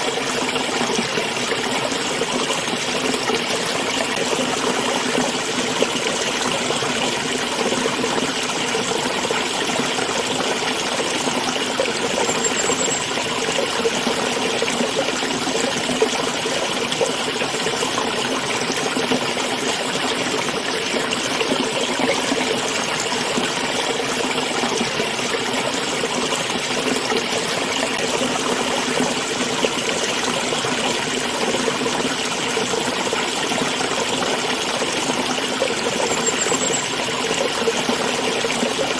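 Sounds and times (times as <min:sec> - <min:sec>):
small stream trickling: 0:00.0 - 0:38.9.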